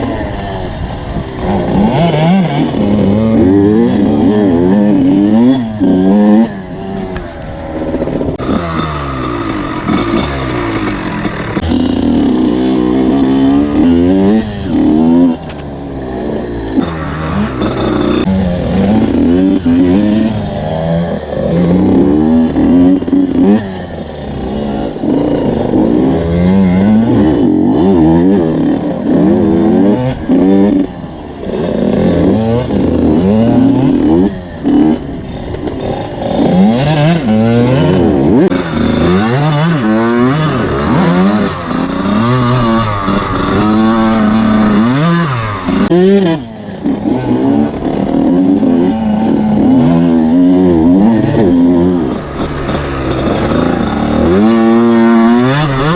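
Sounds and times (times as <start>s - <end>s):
two-stroke bike engine revving: 0.0s - 55.9s.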